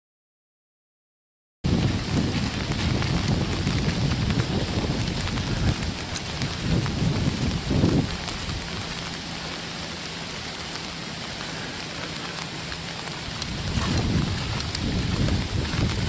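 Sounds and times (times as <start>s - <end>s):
rain falling: 1.6s - 16.0s
wind rumbling on microphone: 1.6s - 16.0s.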